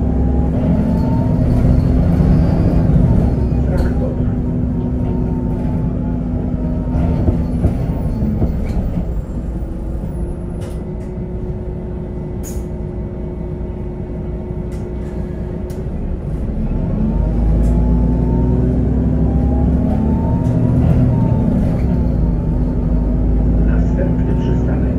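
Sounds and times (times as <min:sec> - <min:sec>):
bus diesel engine: 0:00.0 - 0:24.9.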